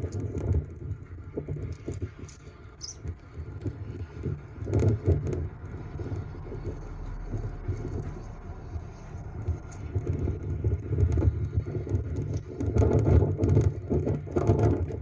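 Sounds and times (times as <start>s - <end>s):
low uneven rumble: 0.0s - 15.0s
rustling and light clicks: 0.0s - 15.0s.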